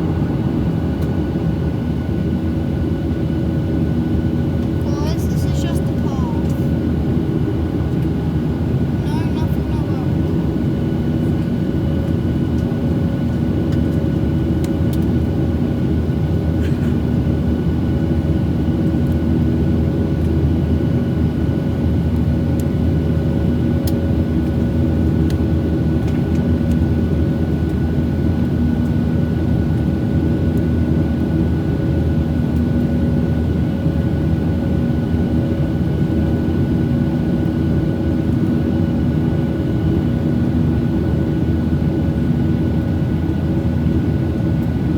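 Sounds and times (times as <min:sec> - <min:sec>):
airliner cabin drone: 0:00.0 - 0:44.9.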